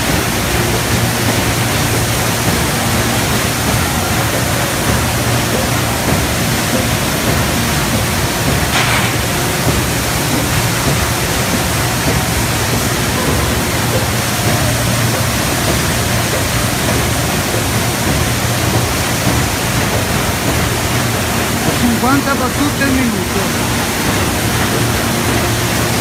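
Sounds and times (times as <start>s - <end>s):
wrapping machine running: 0.0s - 26.0s.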